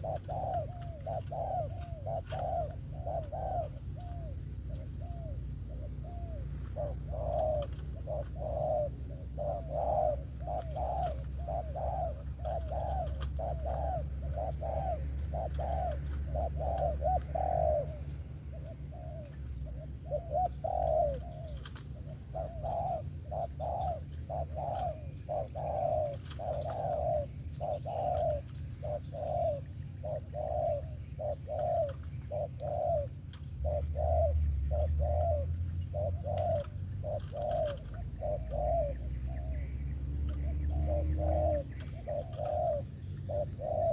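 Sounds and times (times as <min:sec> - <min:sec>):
dove cooing: 0:00.0 - 0:43.9
steady low hum: 0:00.0 - 0:43.9.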